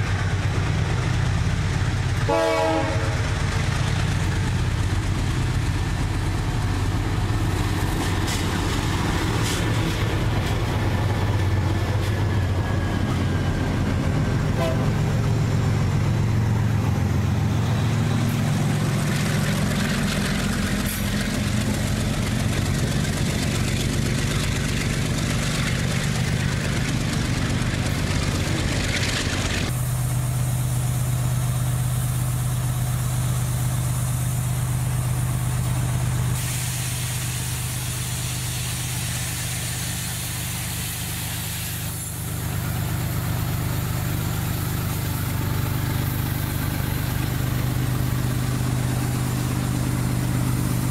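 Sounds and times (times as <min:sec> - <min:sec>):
diesel locomotive engine drone: 0:00.0 - 0:50.9.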